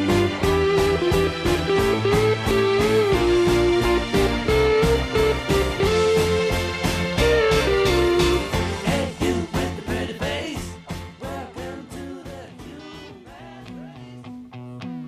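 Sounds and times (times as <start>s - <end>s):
pop-rock music: 0.0s - 15.0s.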